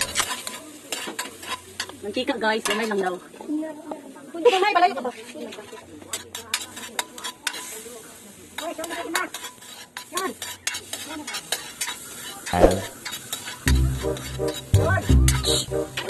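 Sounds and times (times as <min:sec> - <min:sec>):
metal spatula scraping a pan: 0:00.0 - 0:03.4, 0:04.8 - 0:16.0
meat sizzling in a wok: 0:00.0 - 0:16.0.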